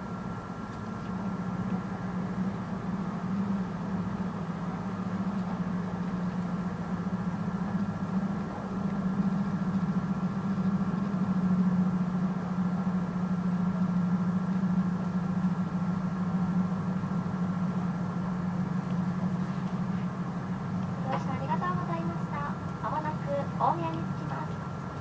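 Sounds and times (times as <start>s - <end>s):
train cabin drone: 0.0s - 25.0s.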